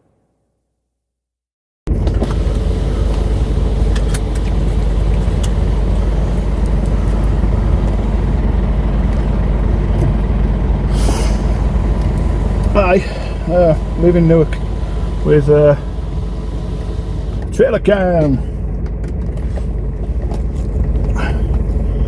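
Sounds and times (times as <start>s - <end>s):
lorry engine rumble: 1.9s - 22.0s
road noise: 1.9s - 22.0s.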